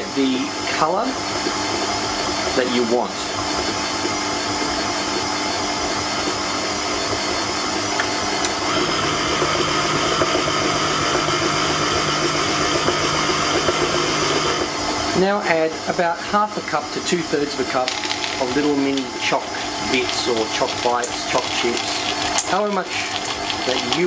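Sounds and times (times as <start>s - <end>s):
electric stand mixer running: 0.0s - 24.0s.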